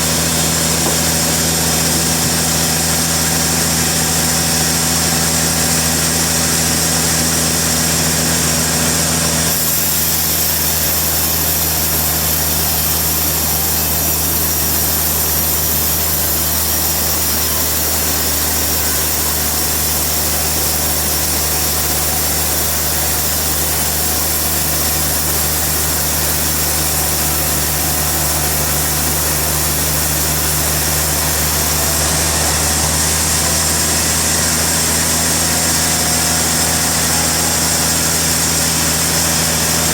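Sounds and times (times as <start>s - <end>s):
saw hissing through log: 0.0s - 39.9s
sawmill engine humming: 0.0s - 39.9s.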